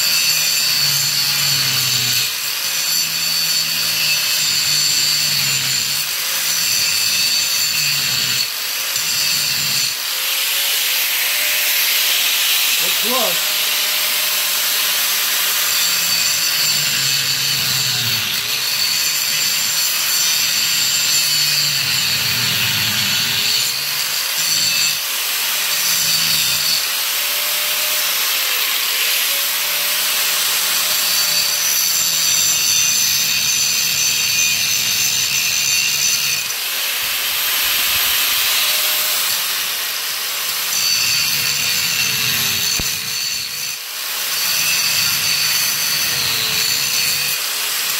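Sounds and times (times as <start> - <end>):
angle grinder grinding metal: 0.0 - 47.9.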